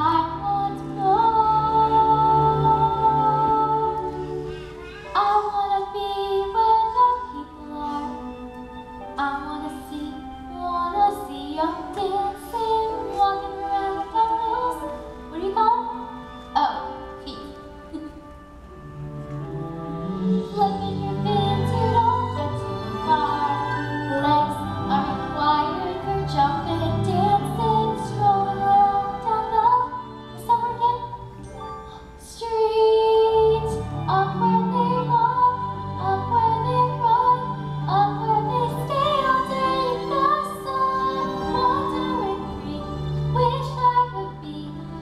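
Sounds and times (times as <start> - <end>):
woman singing: 0.0 - 4.5, 5.1 - 18.5, 20.2 - 45.0
instrumental accompaniment: 0.0 - 45.0.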